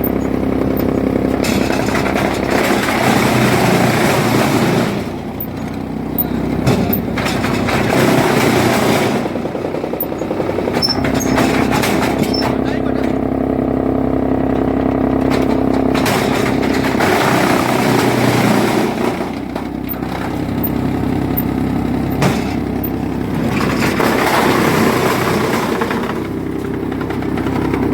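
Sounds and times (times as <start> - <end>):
wood chipper running: 0.0 - 27.9.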